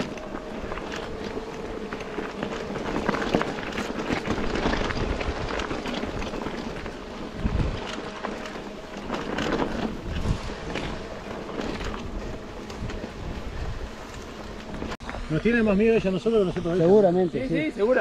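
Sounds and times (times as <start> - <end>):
bike rattling and clicking: 0.0 - 15.3
wind buffeting microphone: 0.0 - 16.8
bike tyres rumbling on dirt: 0.0 - 18.0.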